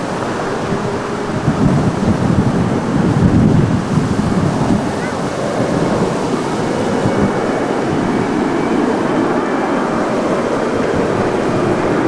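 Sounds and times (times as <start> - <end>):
distant airliner engines rumbling: 0.0 - 12.0
wind buffeting microphone: 0.0 - 12.0.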